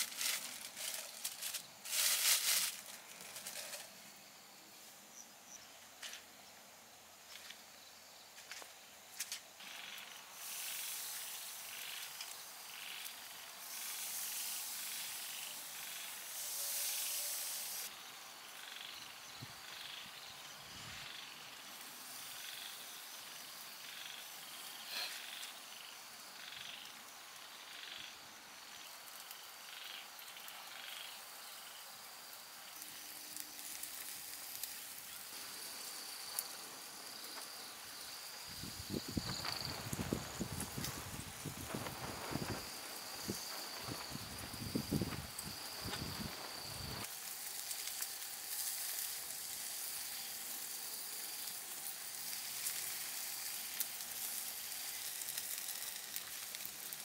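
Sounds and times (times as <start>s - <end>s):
skewers sizzling on a grill: 0.0s - 5.0s, 8.4s - 57.0s.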